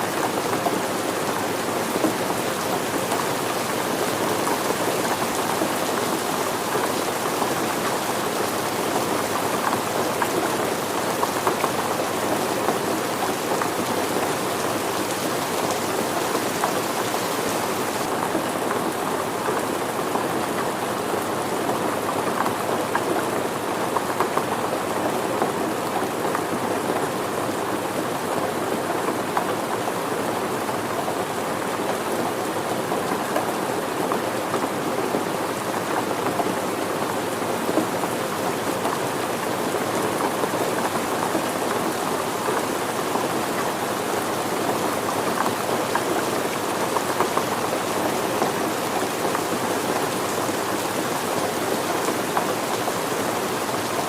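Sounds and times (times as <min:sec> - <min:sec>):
steady rain hissing: 0:00.0 - 0:54.0
raindrops striking surfaces: 0:00.1 - 0:54.0.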